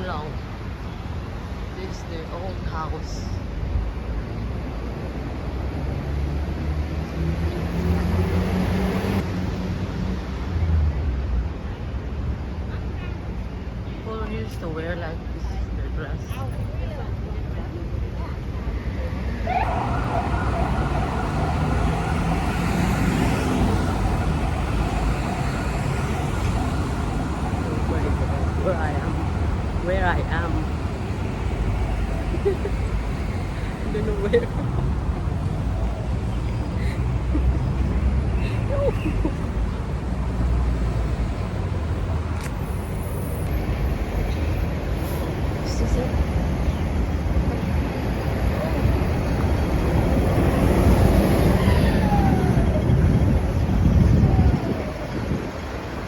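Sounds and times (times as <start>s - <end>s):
street traffic rumble: 0.0s - 56.0s.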